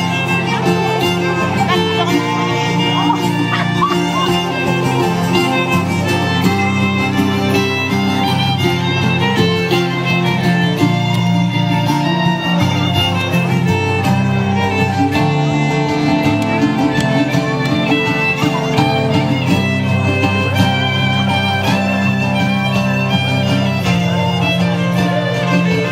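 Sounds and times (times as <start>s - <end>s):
squeezebox band playing folk tune: 0.0s - 25.9s.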